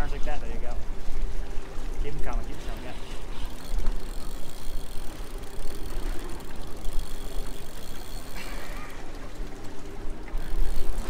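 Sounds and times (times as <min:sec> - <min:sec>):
outboard engines running: 0:00.0 - 0:11.0.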